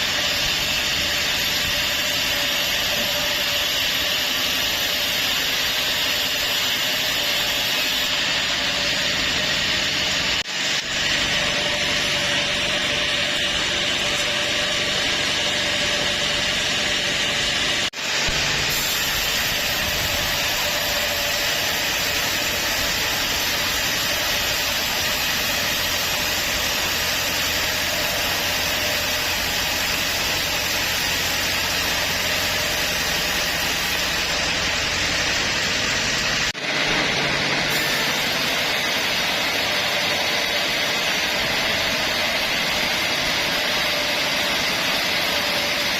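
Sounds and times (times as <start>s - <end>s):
band saw machine hissing: 0.0s - 45.9s.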